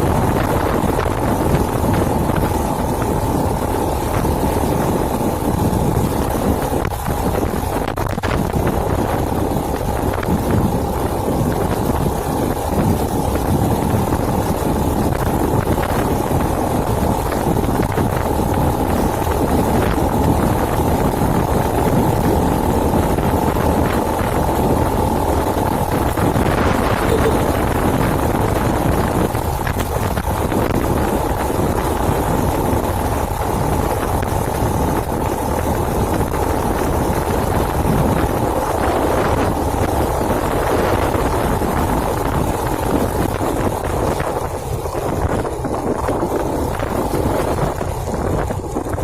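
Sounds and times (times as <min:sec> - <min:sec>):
motorcycle engine running: 0:00.0 - 0:49.0
wind rushing over microphone: 0:00.0 - 0:49.0.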